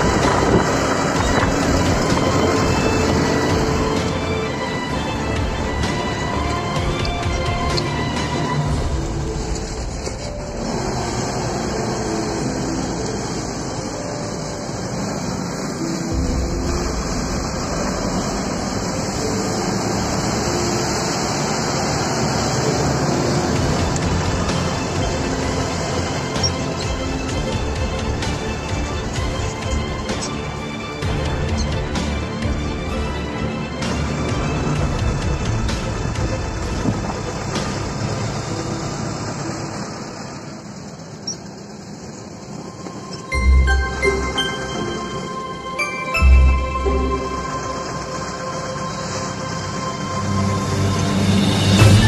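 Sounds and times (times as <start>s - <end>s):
car engine and road rumble: 0.0s - 52.0s.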